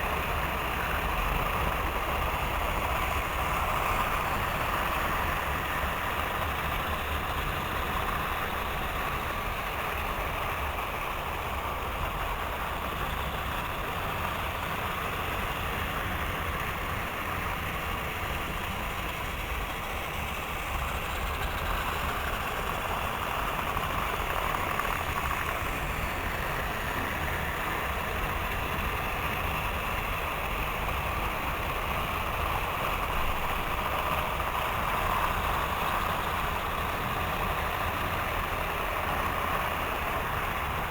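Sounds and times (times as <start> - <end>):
model train motors whirring: 0.0 - 40.9
wheels clattering on rails: 0.1 - 40.9.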